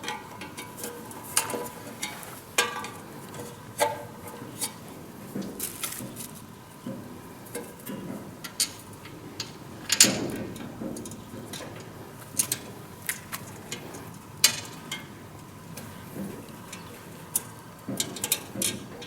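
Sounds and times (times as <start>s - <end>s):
metal fan parts clicking and knocking: 0.0s - 19.0s.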